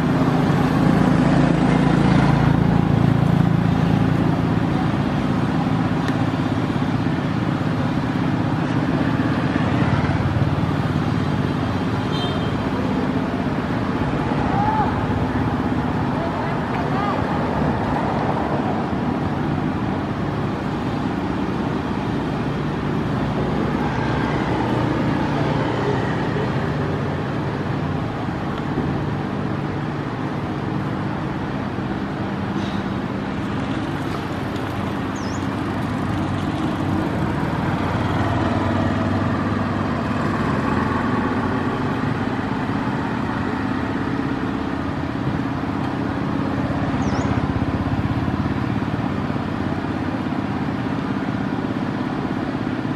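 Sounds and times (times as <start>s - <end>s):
low traffic rumble: 0.0s - 52.9s.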